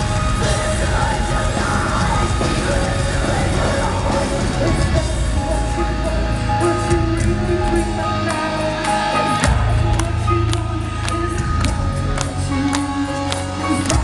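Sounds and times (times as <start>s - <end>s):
heavy metal band playing live: 0.0s - 14.0s.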